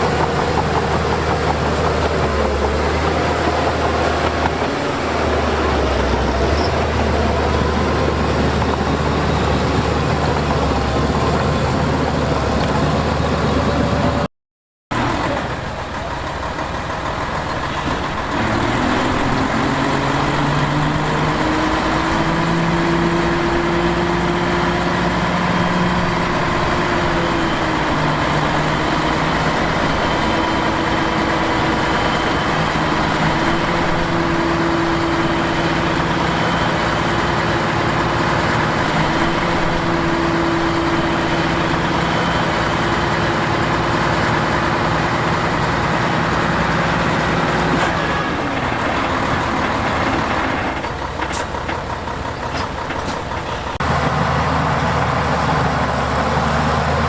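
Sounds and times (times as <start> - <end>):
heavy diesel machinery running: 0.0 - 14.3, 14.9 - 57.0.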